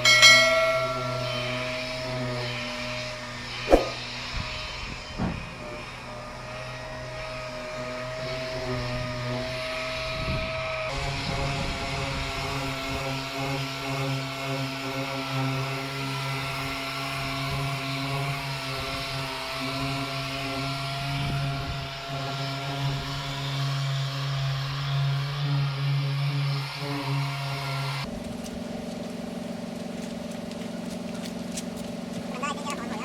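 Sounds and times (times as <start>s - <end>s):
workshop machine humming whine: 0.0s - 33.0s.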